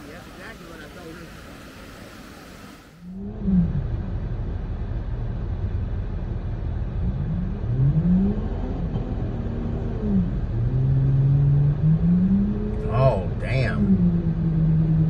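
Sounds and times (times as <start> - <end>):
engine rumbling under load: 0.0 - 15.0.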